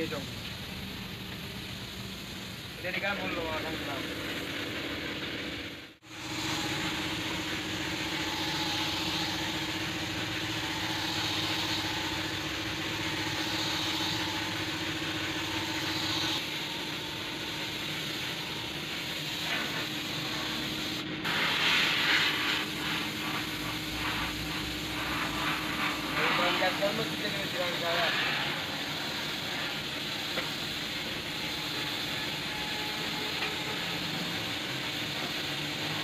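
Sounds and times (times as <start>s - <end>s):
spray gun hissing: 0.0s - 5.2s, 5.9s - 36.0s.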